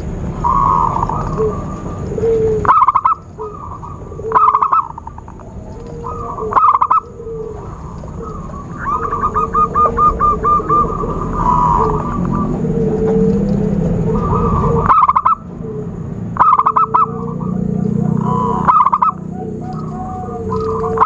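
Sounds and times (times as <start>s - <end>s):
doves cooing: 0.0s - 21.0s.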